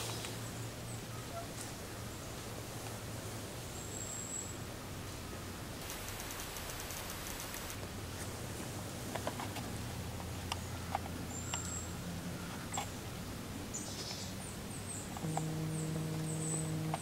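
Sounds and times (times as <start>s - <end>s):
crackles in dry leaves: 0.0s - 17.0s.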